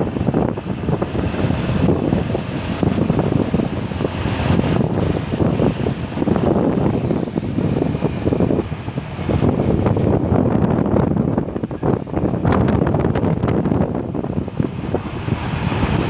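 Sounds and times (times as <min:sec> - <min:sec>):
road and vehicle noise: 0:00.0 - 0:16.0
wind buffeting microphone: 0:00.0 - 0:16.0.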